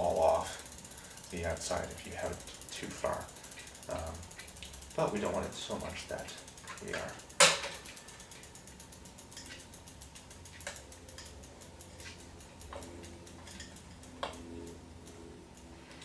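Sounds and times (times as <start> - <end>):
bicycle freehub ratcheting: 0.0 - 16.0.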